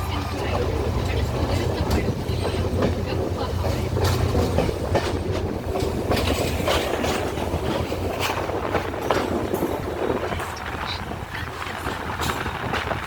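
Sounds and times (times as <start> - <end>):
train rumble: 0.0 - 13.0
train wheels clacking on rails: 0.0 - 13.0.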